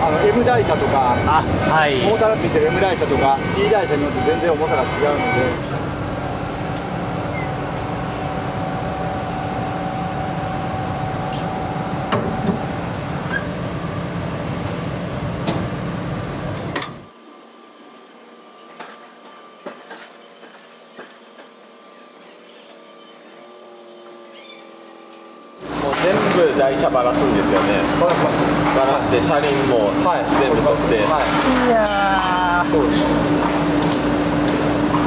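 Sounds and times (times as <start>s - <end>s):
railway traverser mechanical hum: 0.0s - 35.0s.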